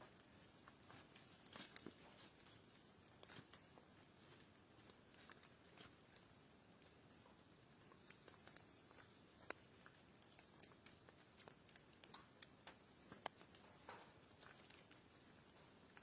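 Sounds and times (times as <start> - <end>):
small clicks and ticks: 0.0 - 16.0.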